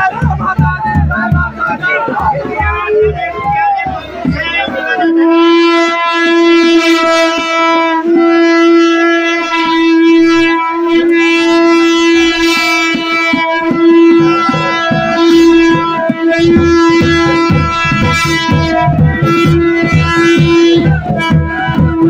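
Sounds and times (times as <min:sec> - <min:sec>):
rhythmic beat: 0:00.0 - 0:22.0
wind instrument long note: 0:00.0 - 0:22.0.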